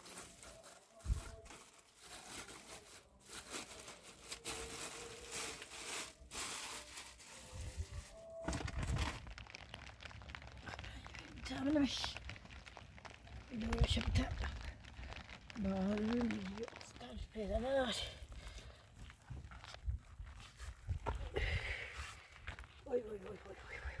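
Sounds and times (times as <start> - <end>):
crinkling rustling handling noise: 0.0 - 24.0.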